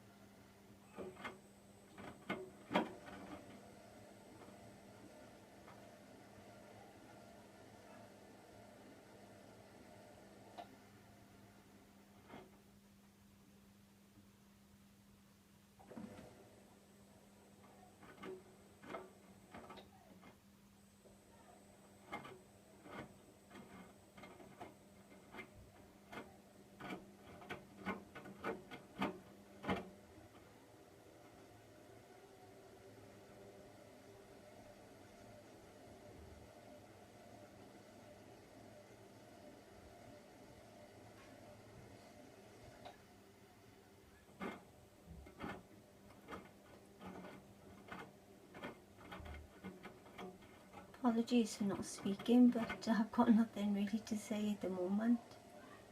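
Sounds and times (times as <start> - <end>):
washing machine low hum: 0.0 - 14.4, 15.6 - 55.9.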